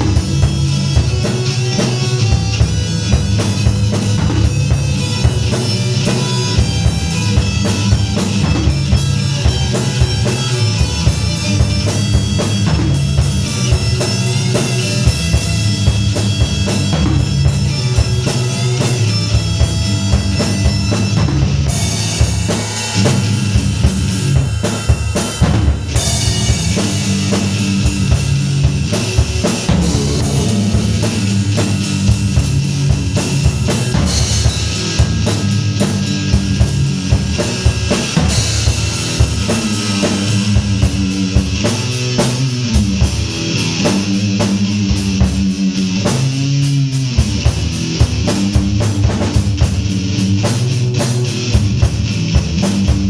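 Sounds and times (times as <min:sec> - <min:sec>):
bass guitar: 0:00.0 - 0:53.0
drum kit with rapid bass drum: 0:00.0 - 0:53.0
electric guitar: 0:00.0 - 0:53.0.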